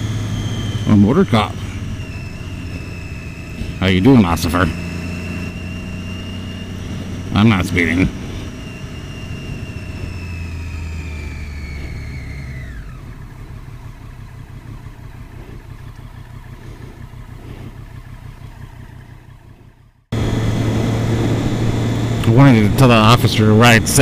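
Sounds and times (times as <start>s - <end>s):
motorcycle engine slowing: 0.0s - 24.0s
road noise: 0.0s - 24.0s.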